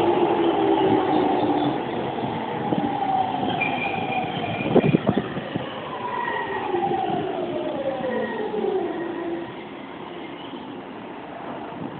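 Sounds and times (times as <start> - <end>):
train rumble: 0.0 - 11.9.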